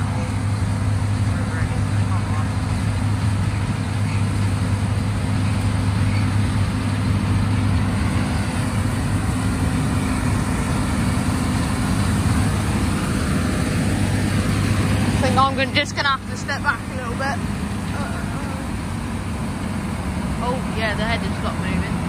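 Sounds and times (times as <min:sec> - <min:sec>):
combine harvester droning: 0:00.0 - 0:22.0.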